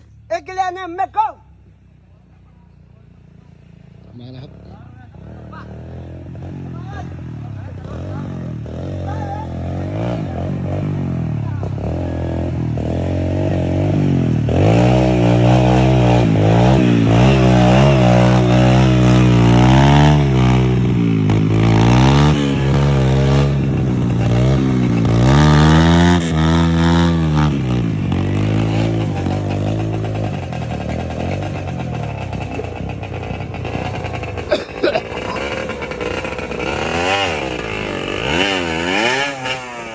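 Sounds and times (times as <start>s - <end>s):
motorcycle engine revving: 1.5s - 39.9s.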